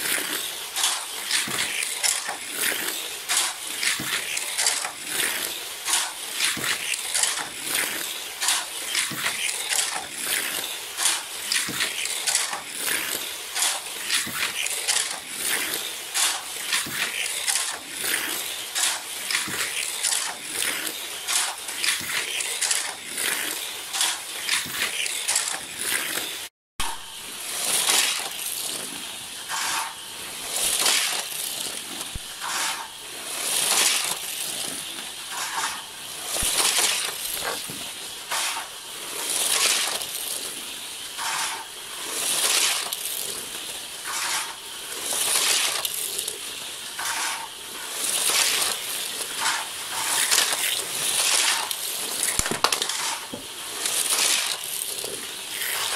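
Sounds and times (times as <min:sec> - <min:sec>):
toy cars rattling whir on track: 0:00.0 - 0:55.9.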